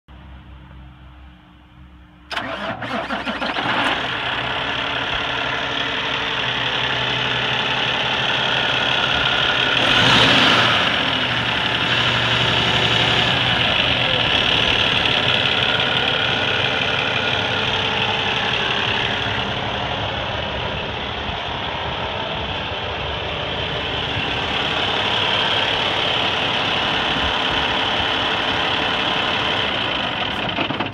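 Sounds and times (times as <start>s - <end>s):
diesel truck engine idling: 0.1s - 30.9s.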